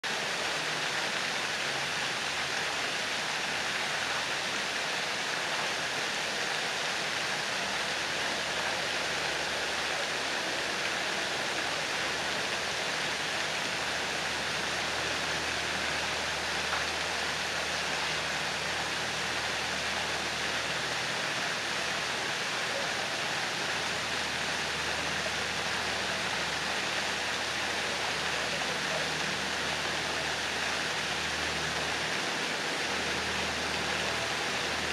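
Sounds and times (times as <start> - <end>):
fountain water splashing: 0.0 - 34.9.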